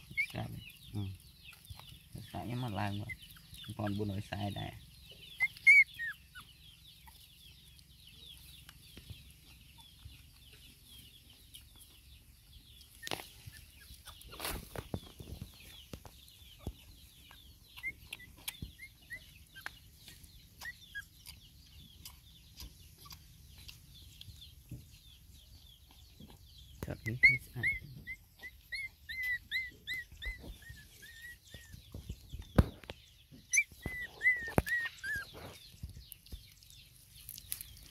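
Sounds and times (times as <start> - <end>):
chickens clucking: 0.0 - 37.9.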